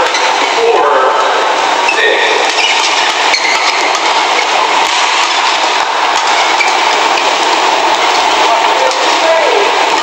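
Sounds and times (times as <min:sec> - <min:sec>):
crowd hubbub: 0:00.0 - 0:10.0.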